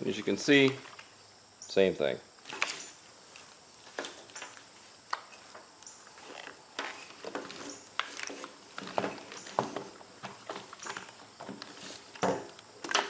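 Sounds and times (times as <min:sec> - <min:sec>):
wiring harness rustling: 0:02.4 - 0:13.0.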